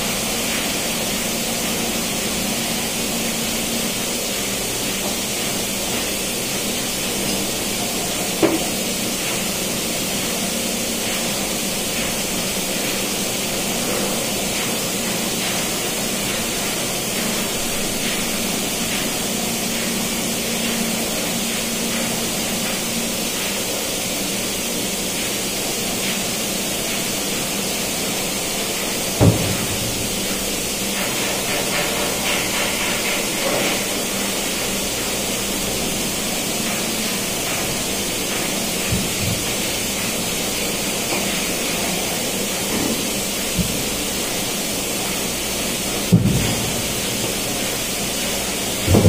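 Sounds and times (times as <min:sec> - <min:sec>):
engine room machinery hiss and hum: 0:00.0 - 0:49.0.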